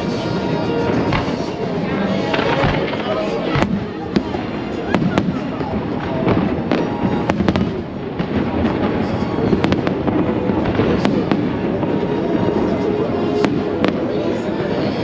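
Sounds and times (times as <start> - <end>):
fireworks bangs: 0.0 - 15.0
steady background din: 0.0 - 15.0.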